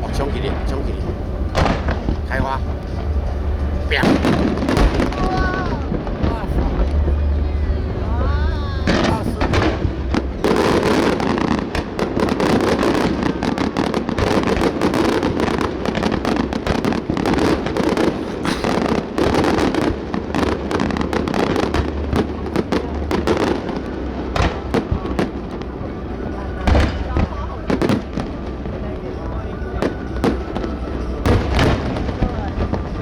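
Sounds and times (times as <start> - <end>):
fireworks bangs: 0.0 - 33.0
fireworks crackling rumble: 0.0 - 33.0.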